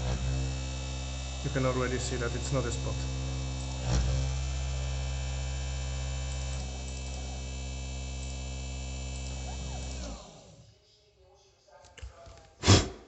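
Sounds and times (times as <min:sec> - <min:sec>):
spindle motor whine: 0:00.0 - 0:10.6.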